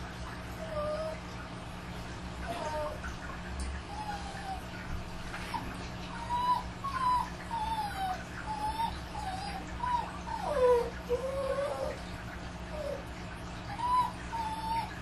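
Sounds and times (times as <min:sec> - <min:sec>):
dogs whining and howling: 0:00.5 - 0:01.4, 0:02.4 - 0:03.1, 0:03.8 - 0:15.0.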